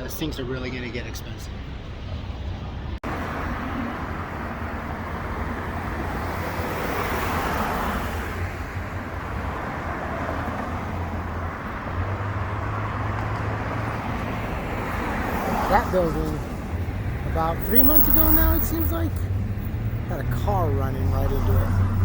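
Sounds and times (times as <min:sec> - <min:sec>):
cars passing on road: 0:00.0 - 0:22.0.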